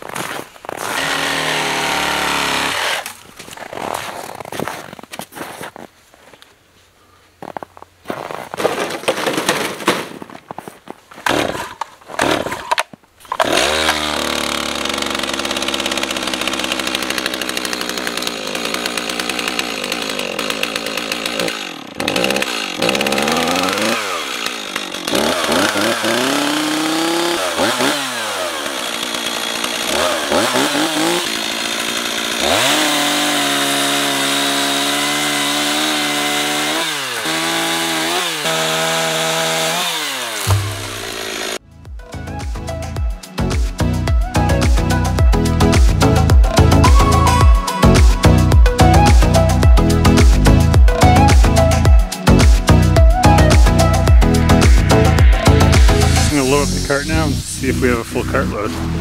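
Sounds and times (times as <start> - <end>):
chainsaw cutting branches: 0.0 - 5.0, 11.2 - 41.6, 43.2 - 59.0
chainsaw starting and revving: 0.1 - 4.4, 11.2 - 59.0.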